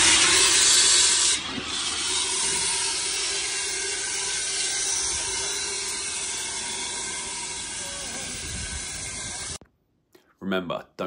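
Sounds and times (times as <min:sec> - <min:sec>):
fire extinguisher hissing: 0:00.0 - 0:09.6.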